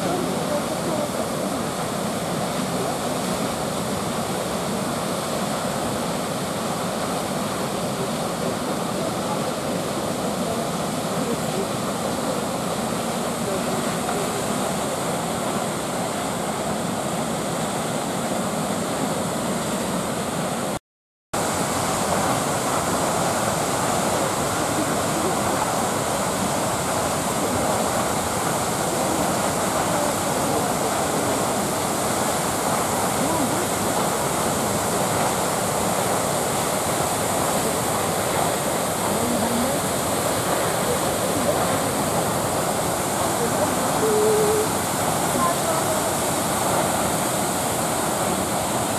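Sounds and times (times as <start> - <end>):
waterfall rushing: 0.0 - 20.8, 21.4 - 48.9.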